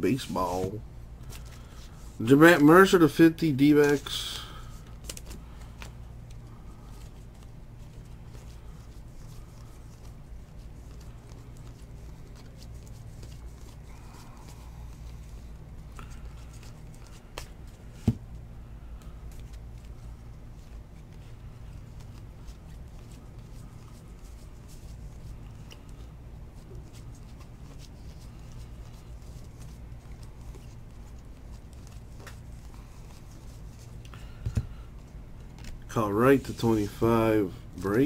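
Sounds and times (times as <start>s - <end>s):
cards flipped through by hand: 1.2s - 3.0s, 3.6s - 37.2s.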